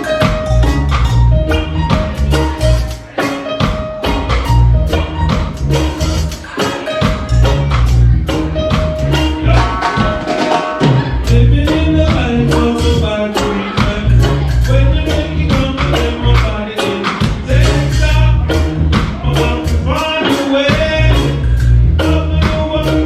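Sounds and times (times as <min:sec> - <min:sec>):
drums: 0:00.0 - 0:23.0
heavy bass line: 0:00.0 - 0:23.0
keyboard or guitar chords: 0:00.0 - 0:23.0
reggae band playing: 0:00.0 - 0:23.0.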